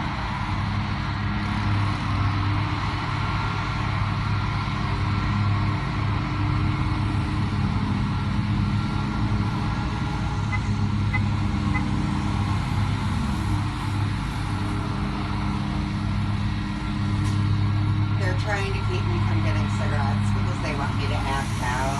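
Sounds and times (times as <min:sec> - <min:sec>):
vehicle engine idling: 0:00.0 - 0:21.9.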